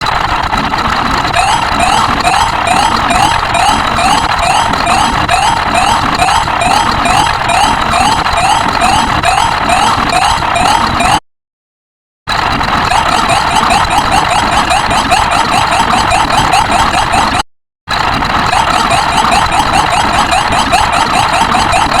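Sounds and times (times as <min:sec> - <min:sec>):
siren yelping: 0:01.0 - 0:11.2, 0:12.6 - 0:17.4, 0:18.3 - 0:22.0.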